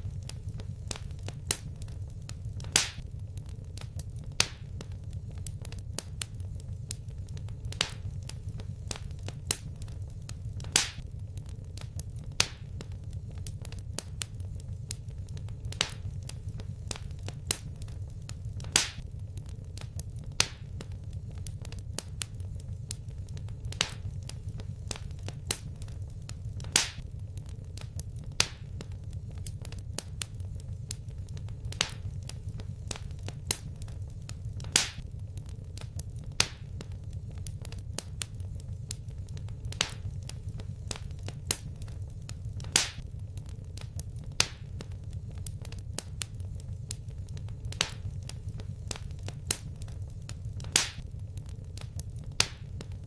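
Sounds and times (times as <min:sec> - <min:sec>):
low rumble of fire: 0:00.0 - 0:53.0
wood fire crackling and popping: 0:00.0 - 0:53.0.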